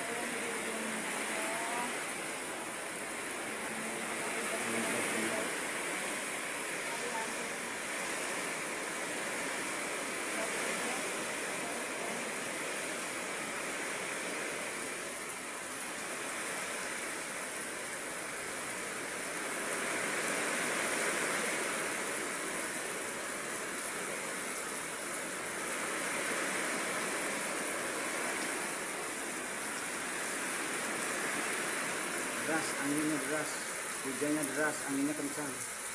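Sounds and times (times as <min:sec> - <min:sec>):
heavy rain in strong wind: 0:00.0 - 0:35.9.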